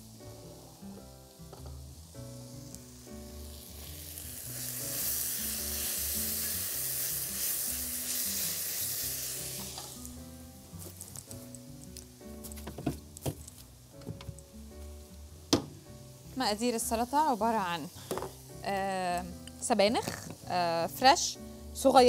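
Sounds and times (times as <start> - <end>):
meat sizzling in a frying pan: 0.0 - 22.0
soft background music: 0.0 - 22.0.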